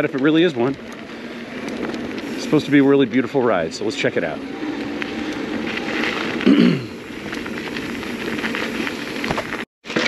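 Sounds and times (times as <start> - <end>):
bike tyres rolling on gravel: 0.0 - 10.0.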